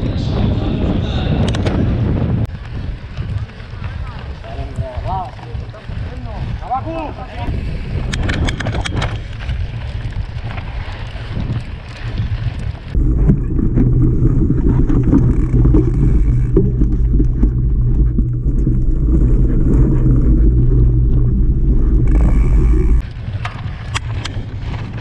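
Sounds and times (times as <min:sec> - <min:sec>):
bike trail vibration rumble: 0:00.0 - 0:25.0
wind buffeting: 0:00.0 - 0:25.0.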